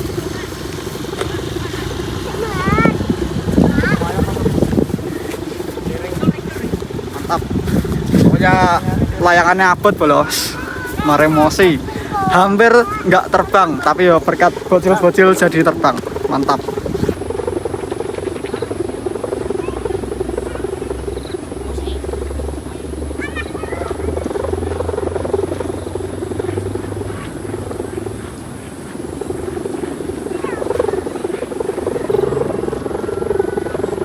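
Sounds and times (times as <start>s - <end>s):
pulsing buzz of kite hummer: 0.0s - 34.0s
wind rumble on microphone: 0.0s - 34.0s.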